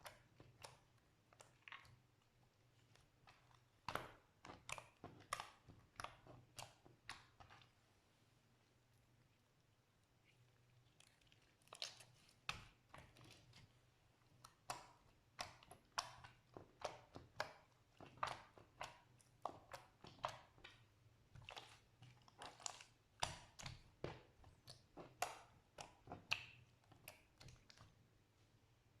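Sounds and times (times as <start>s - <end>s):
slime squishing: 0.0s - 7.9s, 10.0s - 28.4s.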